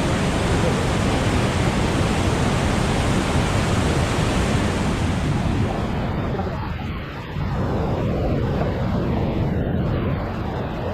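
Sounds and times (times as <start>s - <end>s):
river rapid rushing: 0.0s - 9.2s.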